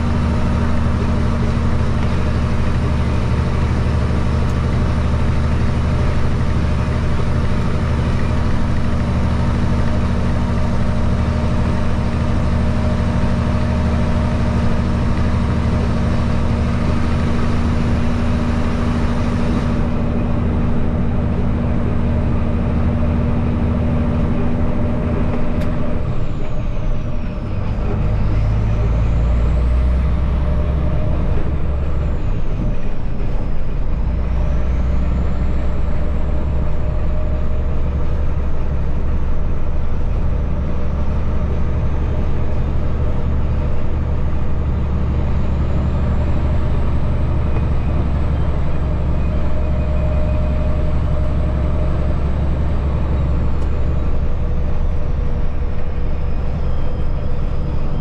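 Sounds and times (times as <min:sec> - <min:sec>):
road noise: 0:00.0 - 0:58.0
truck diesel engine pulling: 0:00.0 - 0:58.0.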